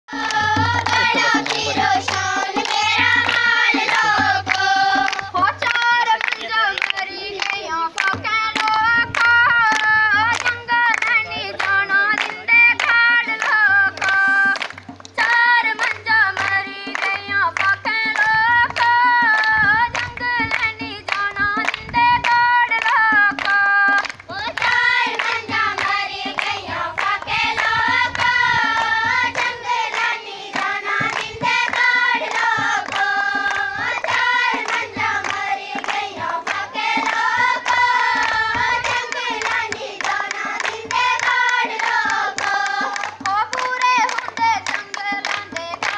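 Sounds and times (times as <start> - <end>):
girls singing together: 0.1 - 14.6, 15.2 - 45.9
rhythmic hand claps: 0.1 - 45.9.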